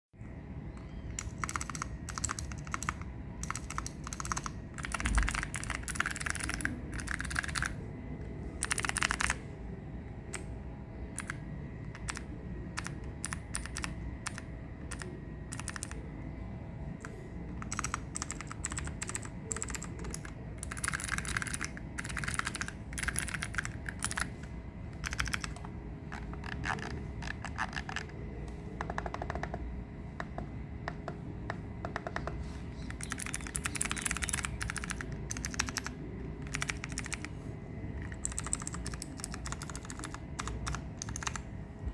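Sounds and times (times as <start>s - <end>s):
clicky mechanical keyboard typing: 0.8s - 7.8s, 8.6s - 9.4s, 11.2s - 16.0s, 17.0s - 28.2s, 28.8s - 29.6s, 30.2s - 37.3s, 38.0s - 41.4s.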